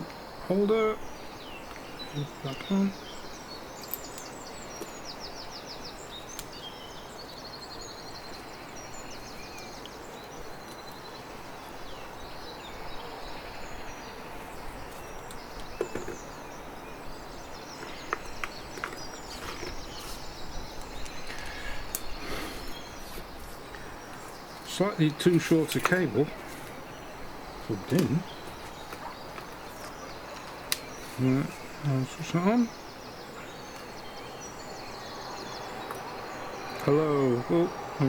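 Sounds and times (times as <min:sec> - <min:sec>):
bird chirps and trills: 0:00.0 - 0:38.0
room ambience hiss: 0:00.0 - 0:38.0.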